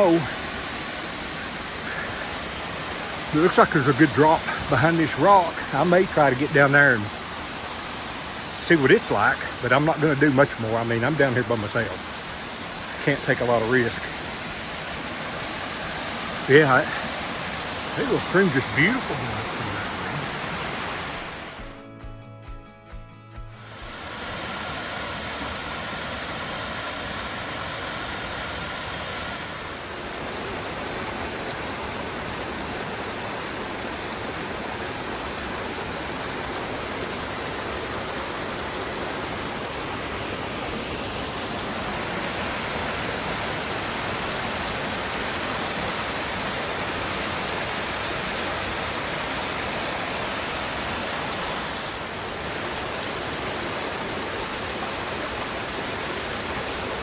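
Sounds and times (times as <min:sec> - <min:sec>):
water rushing over waterfalls: 0:00.0 - 0:21.8, 0:23.6 - 0:57.0.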